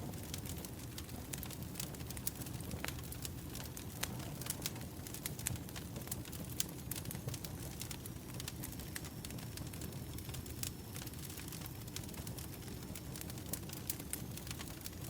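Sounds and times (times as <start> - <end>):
firewood crackling and popping: 0.0 - 15.0
low rumble of flame: 0.0 - 15.0.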